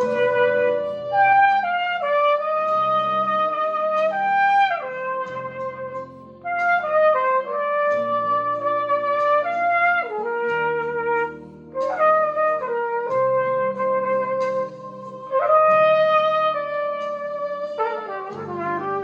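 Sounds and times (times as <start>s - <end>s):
trumpet playing slow melody: 0.0s - 19.0s.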